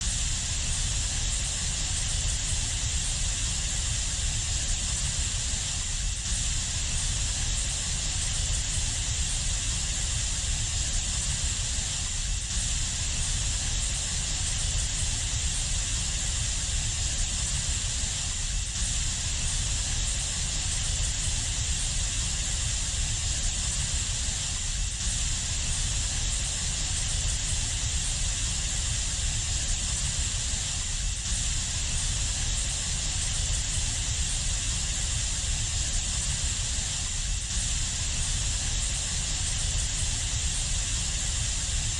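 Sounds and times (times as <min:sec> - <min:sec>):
ambient drone with rumble and hiss: 0:00.0 - 0:41.9.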